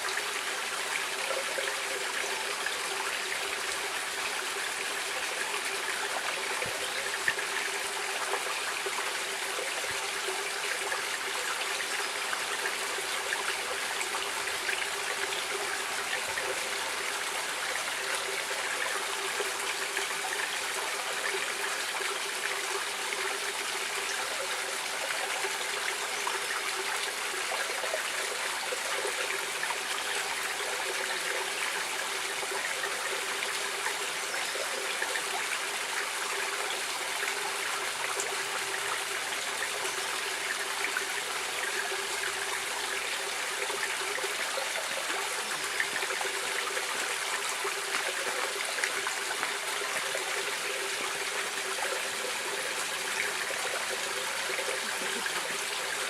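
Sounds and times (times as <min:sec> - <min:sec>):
stream water trickling over stones: 0:00.0 - 0:56.0.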